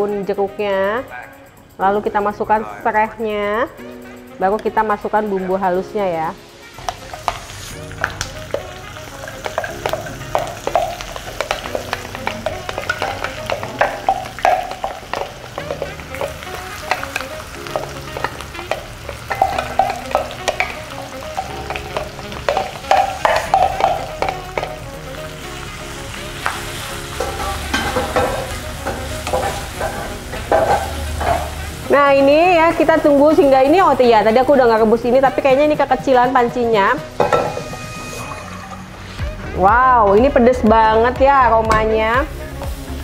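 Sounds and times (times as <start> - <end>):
spice paste sizzling in oil: 4.8 - 39.1, 42.0 - 43.0.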